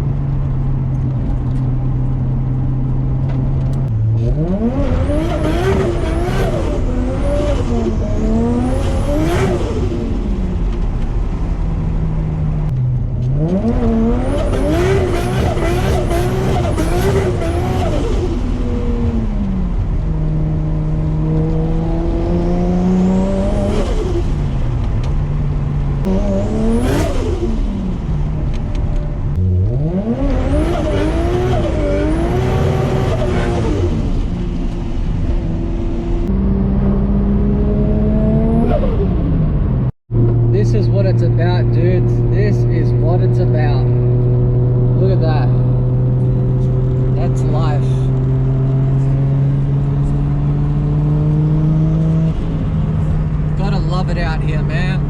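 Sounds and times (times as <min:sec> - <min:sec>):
turbocharged car engine accelerating: 0:00.0 - 0:55.0.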